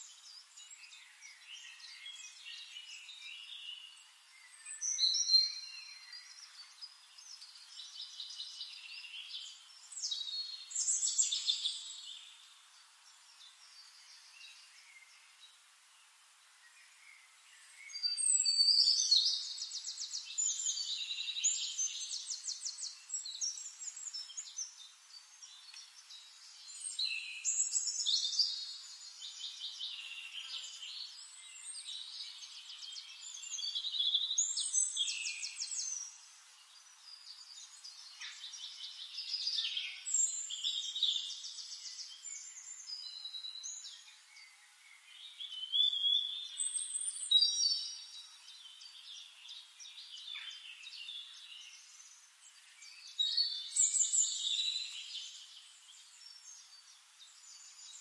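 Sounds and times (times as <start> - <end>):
quiet bird twitters: 0.0 - 16.0, 16.6 - 58.0.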